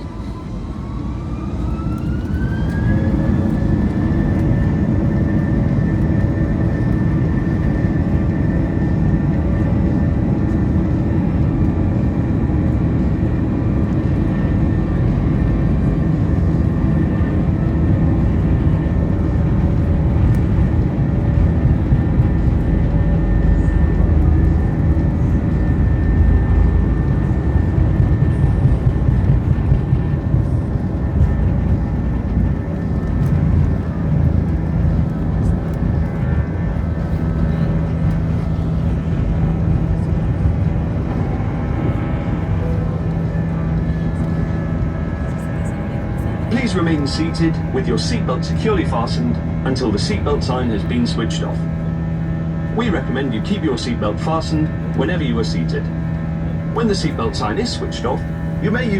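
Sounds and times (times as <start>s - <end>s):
deep engine rumble: 0.0s - 58.9s
jet engine whine: 0.0s - 58.9s.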